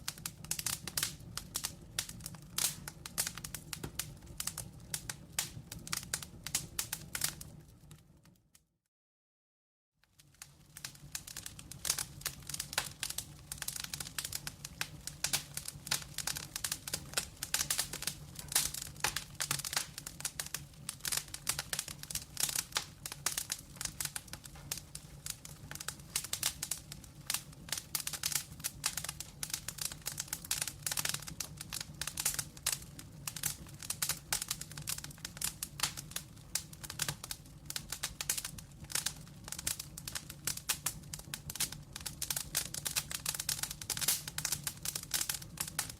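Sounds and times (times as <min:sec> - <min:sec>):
wood fire crackling and popping: 0:00.0 - 0:08.6, 0:10.1 - 0:45.9.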